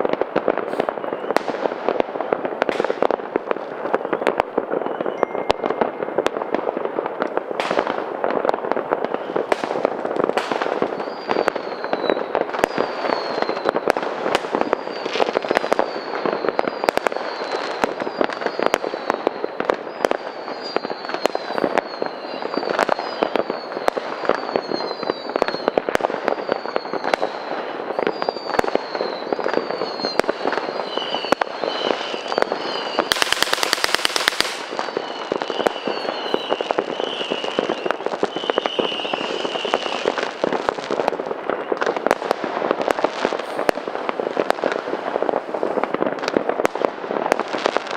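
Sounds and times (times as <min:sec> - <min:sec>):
falling firework whistles: 0:00.0 - 0:47.9
fireworks crackling and banging: 0:00.0 - 0:47.9.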